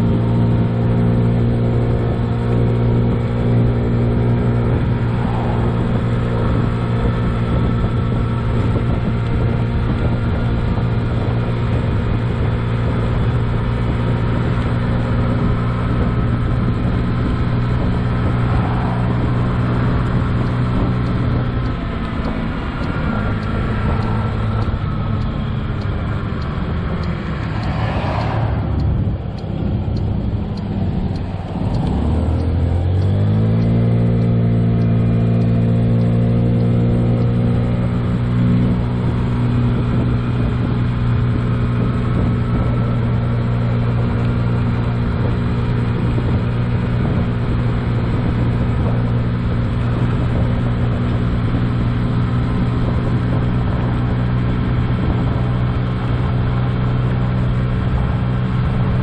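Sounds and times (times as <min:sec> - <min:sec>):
scooter engine droning: 0:00.0 - 0:59.0.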